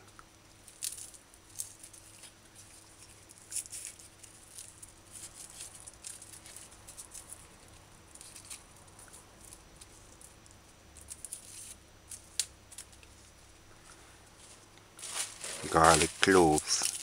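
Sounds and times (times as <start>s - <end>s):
crisp rustles of onion leaves: 0.5s - 10.4s, 11.0s - 17.0s.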